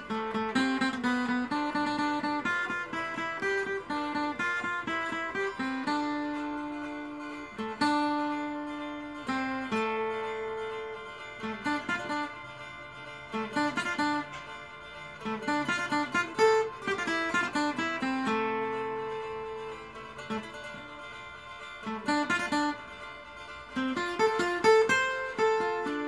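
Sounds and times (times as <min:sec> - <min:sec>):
acoustic guitar melody: 0:00.0 - 0:26.0.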